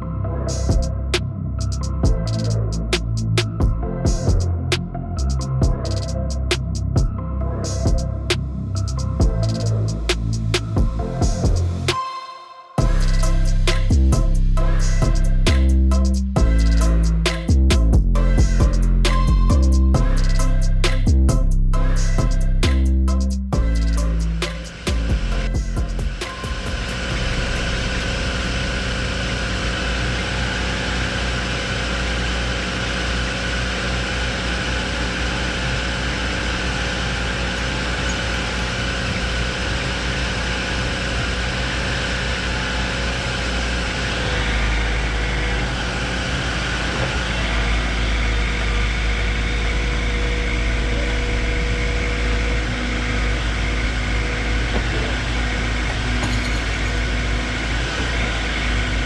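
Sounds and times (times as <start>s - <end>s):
excavator diesel engine drone: 0.0s - 11.9s, 12.8s - 59.0s
steady tones: 0.0s - 59.0s.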